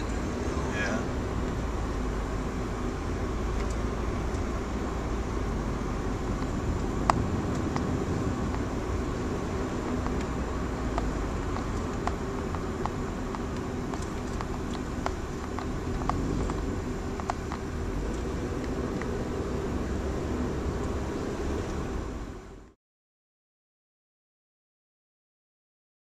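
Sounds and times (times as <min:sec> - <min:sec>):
engine and road rumble in car: 0:00.0 - 0:22.8.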